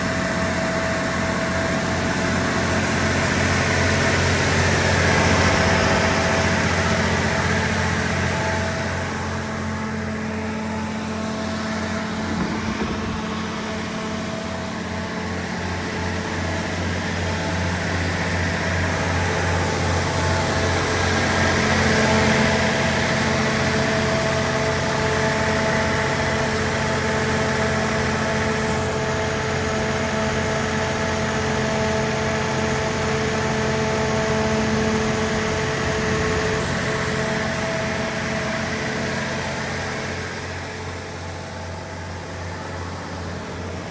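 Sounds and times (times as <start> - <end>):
diesel generator engine running: 0.0 - 43.9
steady whine: 0.0 - 43.9.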